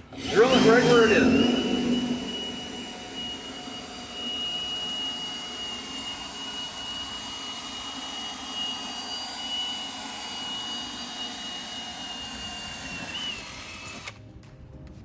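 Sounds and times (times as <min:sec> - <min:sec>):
power drill motor whining: 0:00.0 - 0:14.2.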